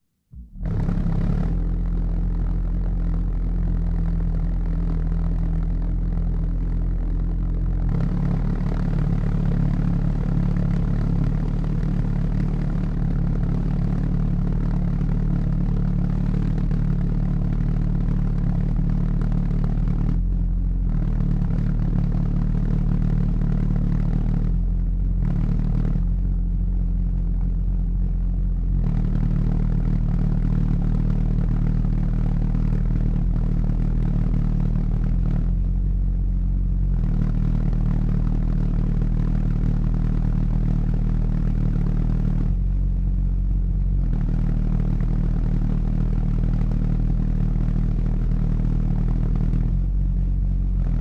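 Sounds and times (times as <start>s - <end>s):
pulse jet engine droning: 0.3s - 51.0s.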